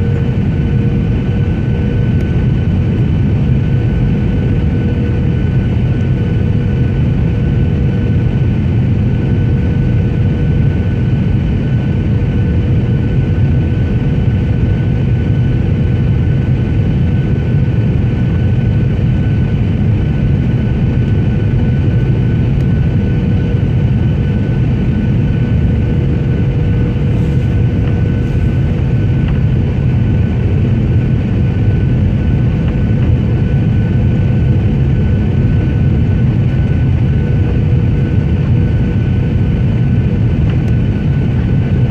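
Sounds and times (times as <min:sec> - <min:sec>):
airliner engine drone: 0:00.0 - 0:41.9.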